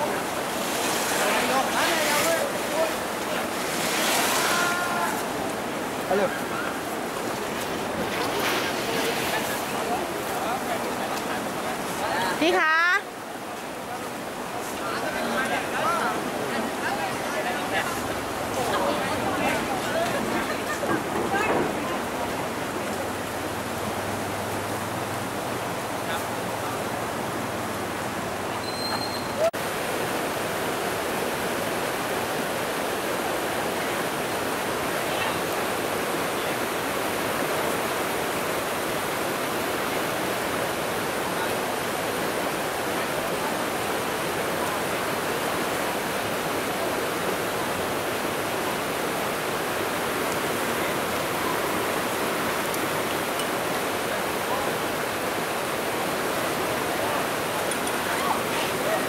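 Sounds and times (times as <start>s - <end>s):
river current rushing: 0.0s - 59.0s.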